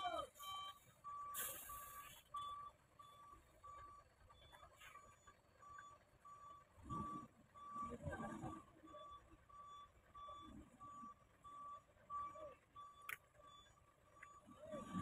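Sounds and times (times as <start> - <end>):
truck reversing alarm beeping: 0.0 - 15.0.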